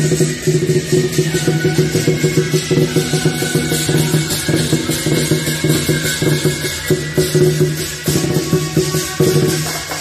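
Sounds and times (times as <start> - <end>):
cymbals clashing: 0.0 - 10.0
drum beating fast rhythm: 0.0 - 10.0.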